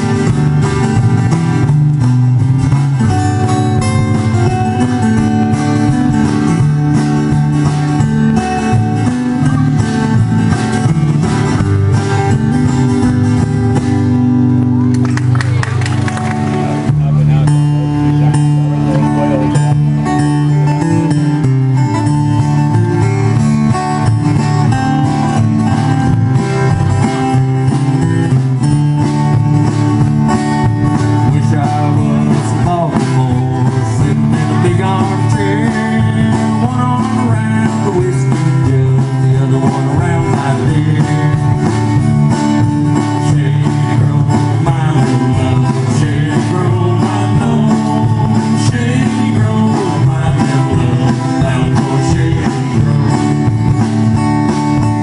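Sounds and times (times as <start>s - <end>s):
drum kit: 0.0s - 55.0s
strummed acoustic guitars: 0.0s - 55.0s
upright bass line: 0.0s - 55.0s.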